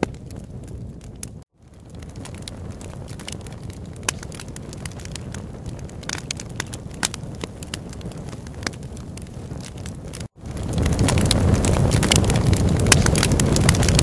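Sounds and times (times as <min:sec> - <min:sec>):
sharp crackles and pops: 0:00.0 - 0:14.0.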